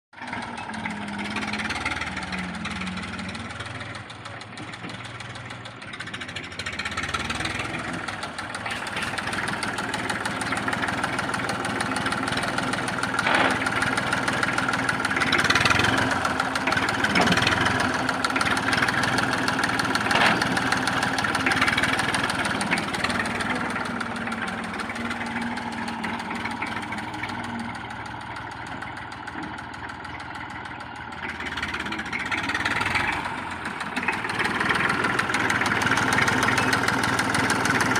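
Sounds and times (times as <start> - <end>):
tractor diesel engine revving: 0.2 - 37.9.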